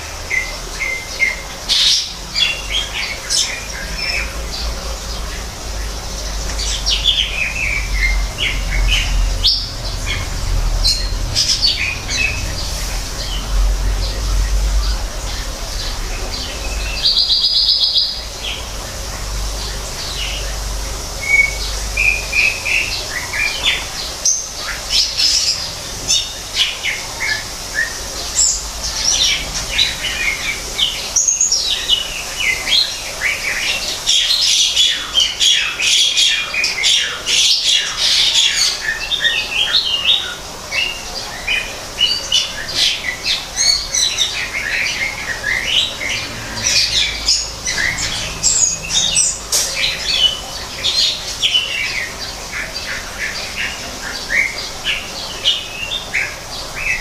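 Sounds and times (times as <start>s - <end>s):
bird singing chirps and trills: 0.0s - 57.0s.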